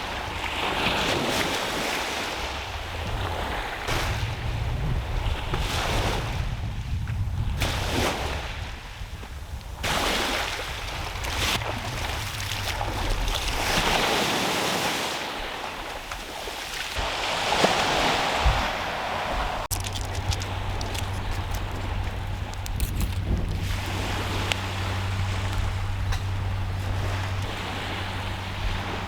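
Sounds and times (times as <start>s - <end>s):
small waves breaking on beach: 0.0s - 6.8s, 7.4s - 29.0s
wind rumbling on microphone: 0.0s - 14.8s, 15.4s - 29.0s.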